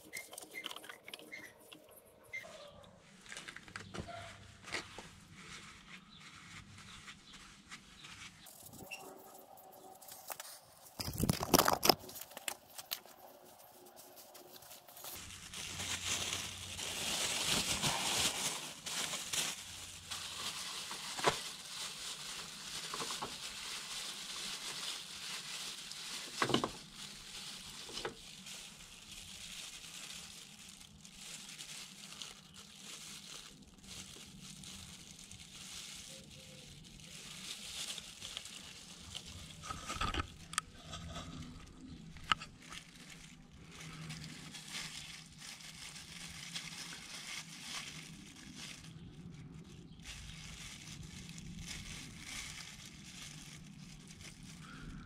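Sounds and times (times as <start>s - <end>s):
rustling and crinkling: 0.0s - 55.0s.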